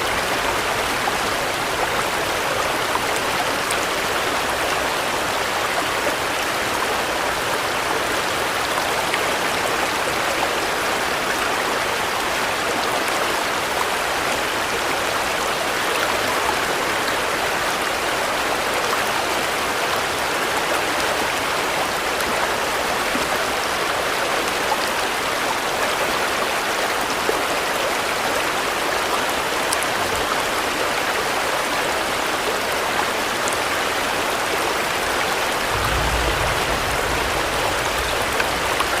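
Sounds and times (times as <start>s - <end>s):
steady rain hiss: 0.0s - 27.0s, 27.6s - 39.0s.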